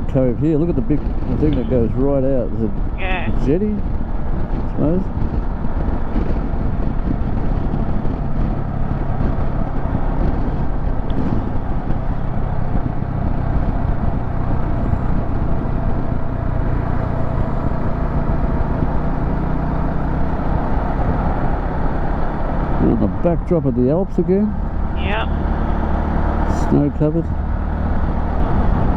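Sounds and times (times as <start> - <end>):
motorcycle engine cruising: 0.0 - 28.9
wind and road noise: 0.0 - 28.9.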